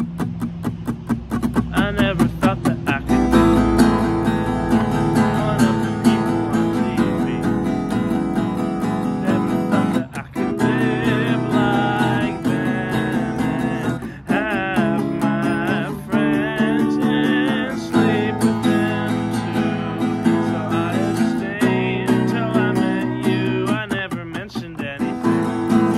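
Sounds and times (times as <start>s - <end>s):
acoustic guitar strumming: 0.0s - 25.9s.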